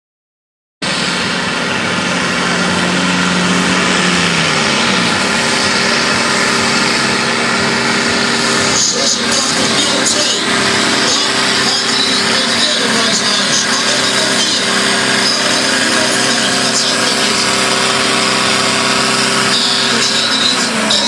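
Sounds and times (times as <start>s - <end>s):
tractor engine running hard: 0.8s - 21.0s.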